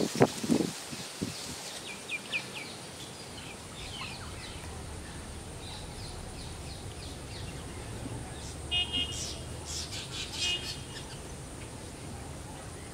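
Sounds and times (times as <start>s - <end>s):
small birds chirping: 1.2s - 12.9s
low open air hum: 1.8s - 12.9s.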